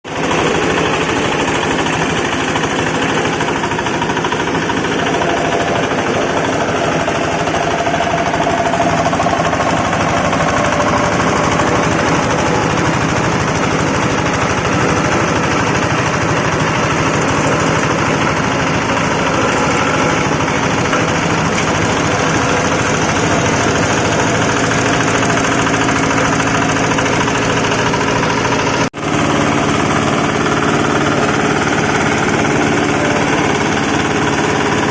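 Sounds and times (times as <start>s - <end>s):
motor hum: 0.1s - 34.9s
wood-shaving machine chatter: 0.1s - 34.9s.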